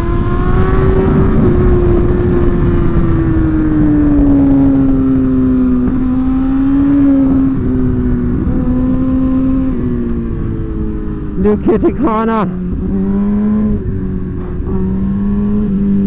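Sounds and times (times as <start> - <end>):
motorcycle engine at high revs: 0.0 - 16.0
wind noise: 0.0 - 16.0.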